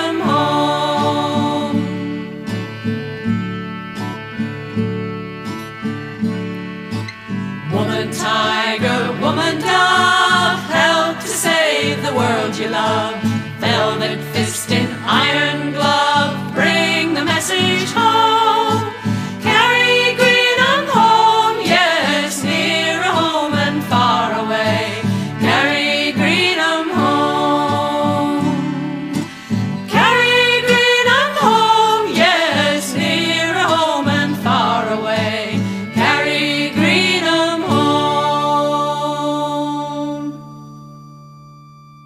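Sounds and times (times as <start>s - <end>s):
folk song sung with instruments: 0.0s - 40.9s.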